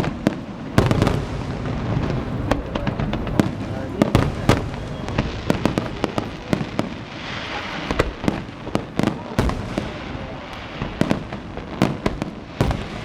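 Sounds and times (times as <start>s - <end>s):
distant shell bursts rumbling: 0.0s - 13.0s
firework bangs: 0.0s - 13.0s
firework crackling hiss: 0.0s - 13.0s.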